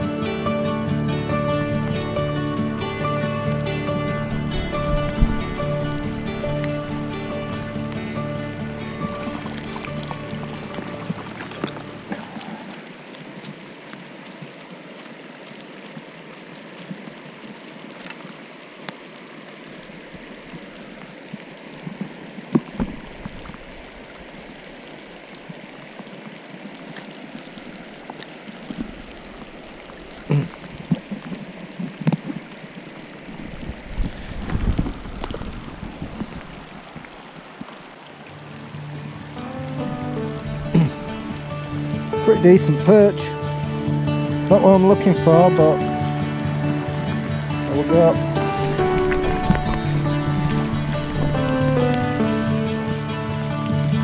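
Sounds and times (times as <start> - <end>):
flowing stream water: 0.0 - 54.0.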